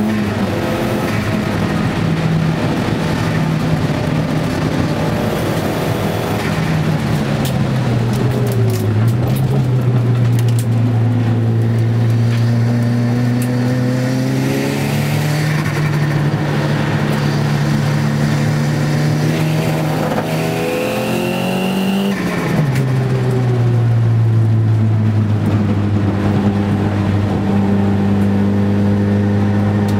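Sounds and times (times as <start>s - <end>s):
car engine revving: 0.0s - 29.9s.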